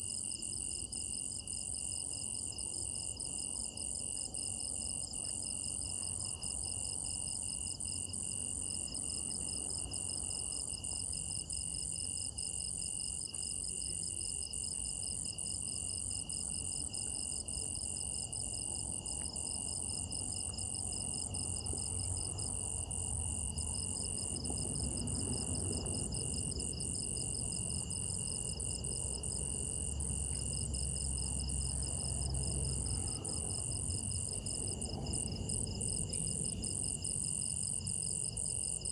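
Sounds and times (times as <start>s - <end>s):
crickets trilling: 0.1s - 38.9s.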